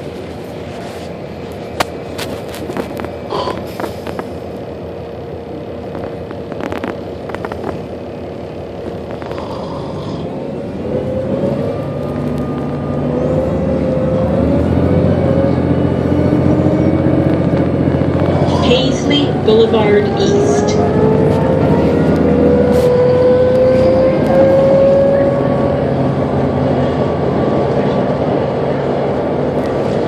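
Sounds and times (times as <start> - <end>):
bus engine hum: 0.0 - 30.0
rising engine whine: 0.0 - 30.0.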